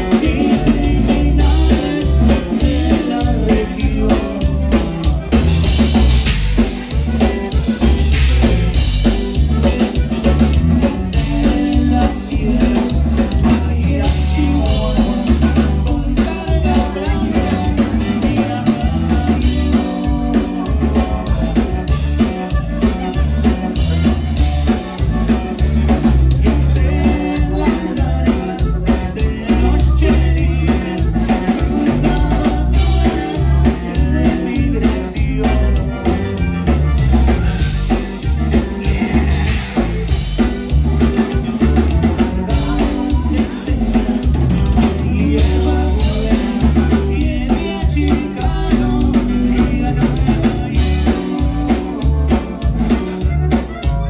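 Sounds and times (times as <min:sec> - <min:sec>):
bass line: 0:00.0 - 0:54.0
drum kit: 0:00.0 - 0:54.0
live band playing dance music: 0:00.0 - 0:54.0.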